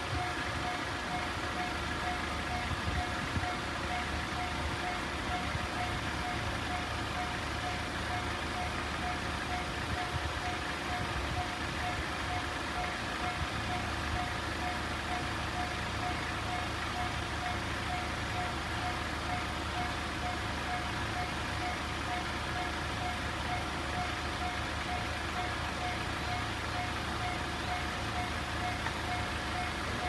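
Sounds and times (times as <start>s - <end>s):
level crossing warning bell: 0.0s - 30.0s.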